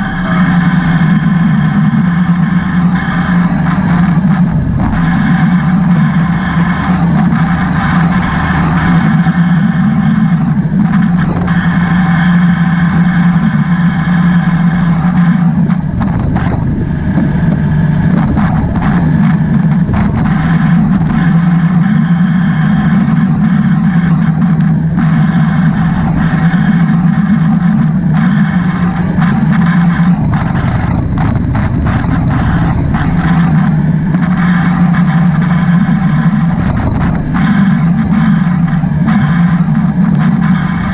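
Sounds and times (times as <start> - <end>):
motorbike engine running: 0.0 - 40.9
wind rushing over microphone: 0.0 - 40.9.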